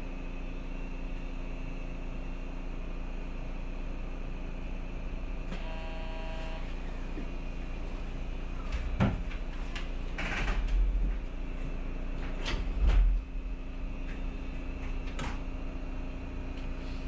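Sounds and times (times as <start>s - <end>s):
electric train running hum: 0.0s - 17.0s.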